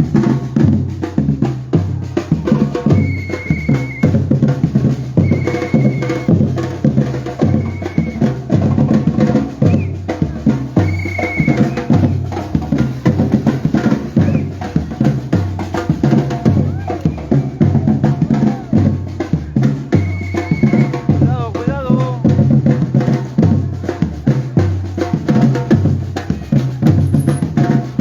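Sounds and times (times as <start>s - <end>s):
samba drums playing: 0.0s - 28.0s.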